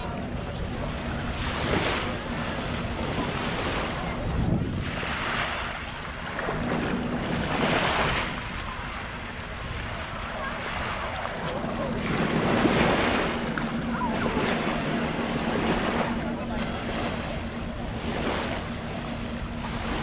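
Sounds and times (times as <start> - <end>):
small waves washing on sand: 0.0 - 20.0.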